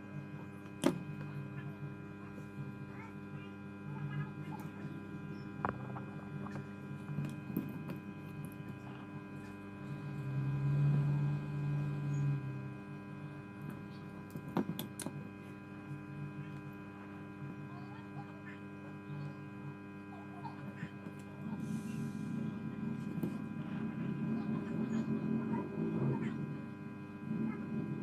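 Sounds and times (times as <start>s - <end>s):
electrical mains hum: 0.0s - 28.0s
louder low hum: 0.0s - 28.0s.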